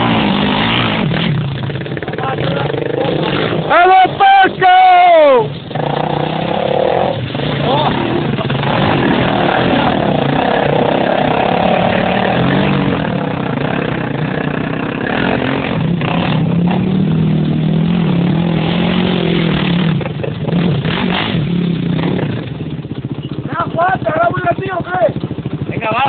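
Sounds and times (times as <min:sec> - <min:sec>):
quad bike engine revving: 0:00.0 - 0:26.0.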